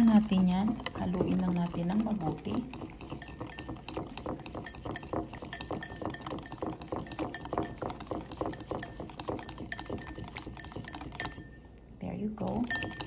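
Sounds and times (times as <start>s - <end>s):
wire whisk clinking in bowl: 0.0s - 11.6s, 12.4s - 13.0s.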